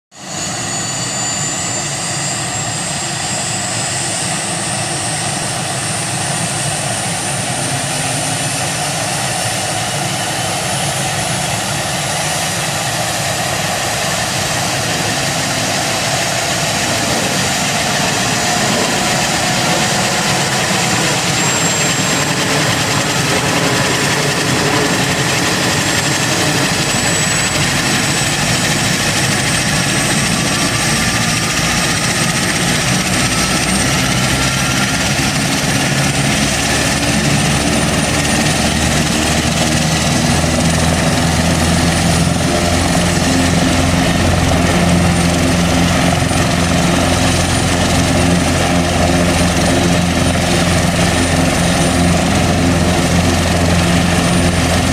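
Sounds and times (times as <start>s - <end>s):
helicopter turbine engines whining: 0.2s - 54.9s.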